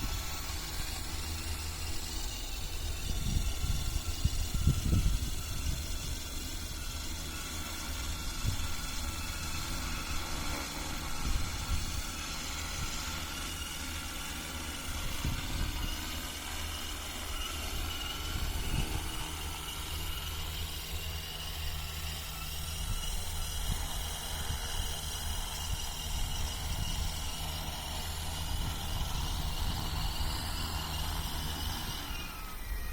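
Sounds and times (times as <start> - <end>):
wind rumble on microphone: 0.0 - 7.0, 7.8 - 32.9
drone propellers humming: 0.0 - 32.9.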